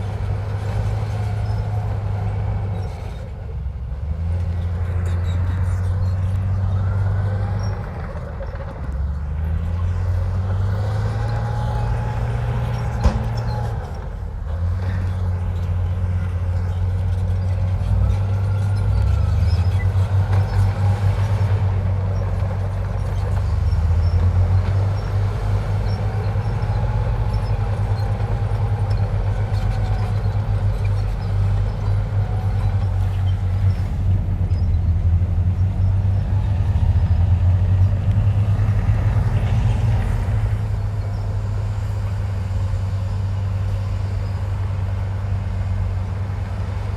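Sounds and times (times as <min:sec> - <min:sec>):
heavy diesel engine under load: 0:00.0 - 0:46.9.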